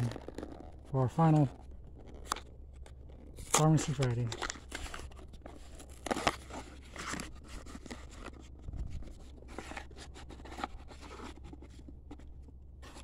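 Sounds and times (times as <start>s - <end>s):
cardboard scraping and rustling: 0.0s - 13.0s.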